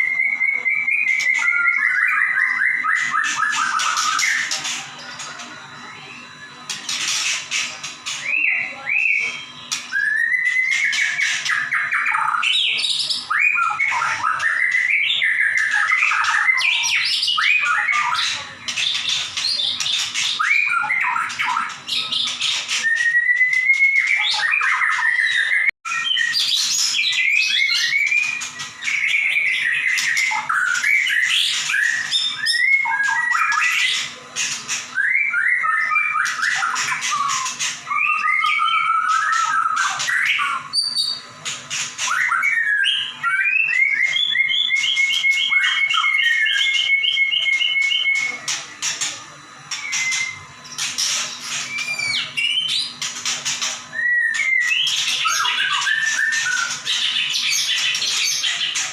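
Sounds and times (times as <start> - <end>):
songbird singing whistles and trills: 0.0 - 49.0, 49.7 - 58.9.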